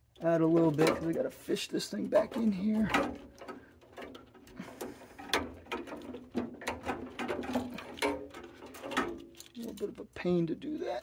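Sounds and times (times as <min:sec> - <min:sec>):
plastic connectors and wires rustling: 0:00.0 - 0:11.0.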